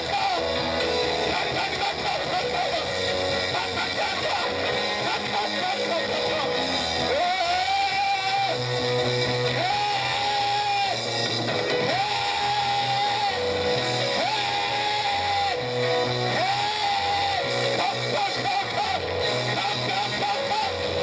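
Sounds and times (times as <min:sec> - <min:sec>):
lead guitar long held notes: 0:00.0 - 0:21.0
steady bass: 0:00.0 - 0:21.0.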